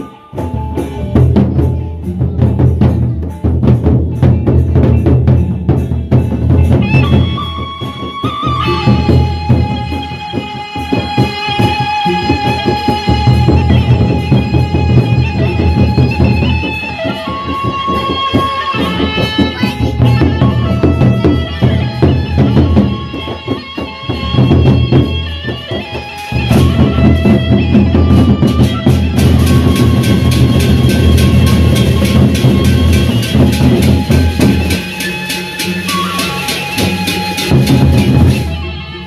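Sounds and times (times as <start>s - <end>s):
barrel drums beaten with sticks: 0.0s - 38.6s
bamboo flute melody: 0.0s - 39.0s.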